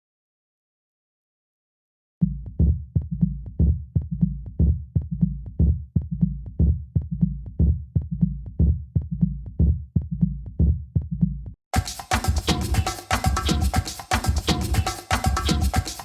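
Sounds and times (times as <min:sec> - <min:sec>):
bass line: 0:02.2 - 0:11.6, 0:12.2 - 0:15.8
music with deep drum beat: 0:02.2 - 0:16.0.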